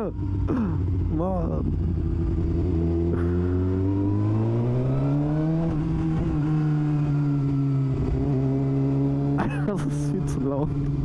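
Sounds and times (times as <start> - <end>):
loud motorcycle engine running: 0.0 - 11.0.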